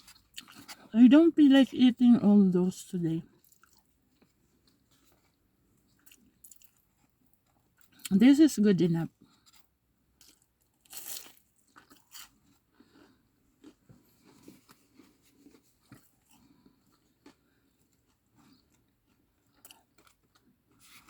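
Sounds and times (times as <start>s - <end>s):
chewing and crunching food: 0.0s - 1.0s, 3.2s - 8.2s, 9.1s - 21.0s.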